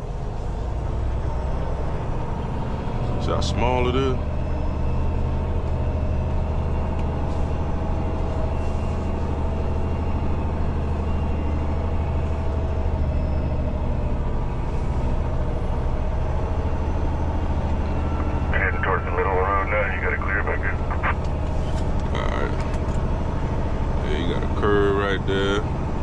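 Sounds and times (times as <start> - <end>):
diesel truck engine droning: 0.0 - 26.0
road and cab noise: 0.0 - 26.0.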